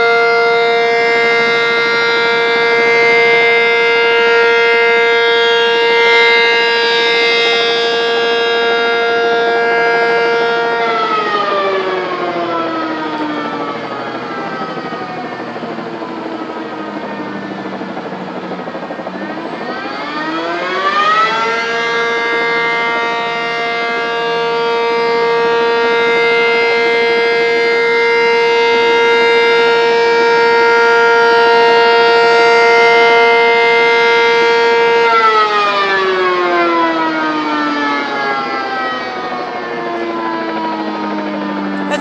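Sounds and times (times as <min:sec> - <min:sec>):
warning siren wailing: 0:00.0 - 0:42.0.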